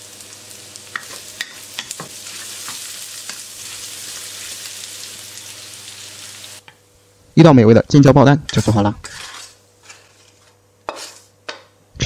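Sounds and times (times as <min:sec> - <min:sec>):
food sizzling in a wok: 0:00.0 - 0:07.2, 0:08.5 - 0:11.8.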